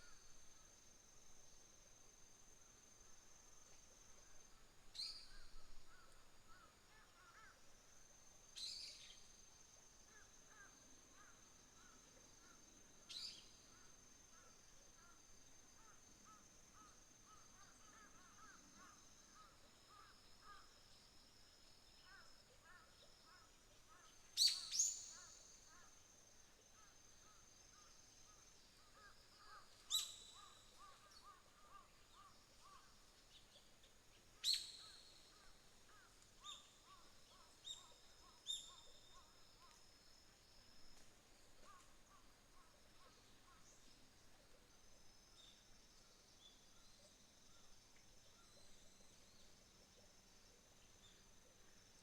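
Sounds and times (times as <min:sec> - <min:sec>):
insects trilling: 0:00.0 - 0:52.0.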